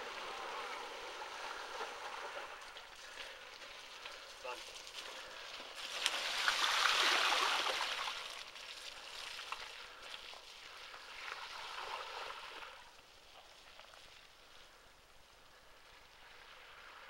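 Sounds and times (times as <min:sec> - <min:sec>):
bike tyres splashing through water: 0:00.0 - 0:14.9.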